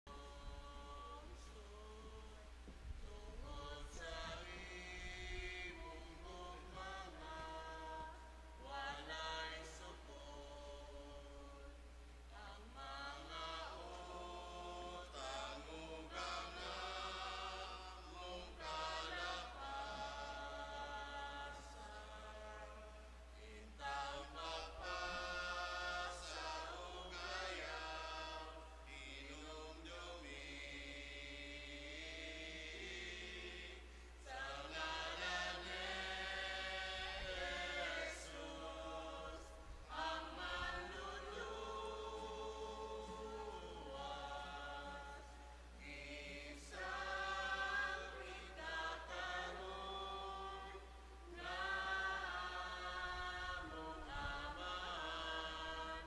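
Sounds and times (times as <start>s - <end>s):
voices singing a hymn: 0.0s - 56.0s
low electrical hum: 0.1s - 56.0s.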